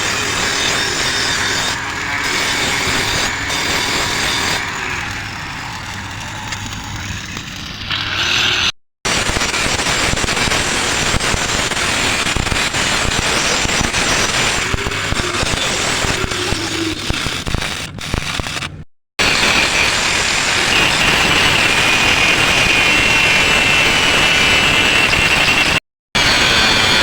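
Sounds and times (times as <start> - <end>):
welding arc crackling: 0.0 - 27.0.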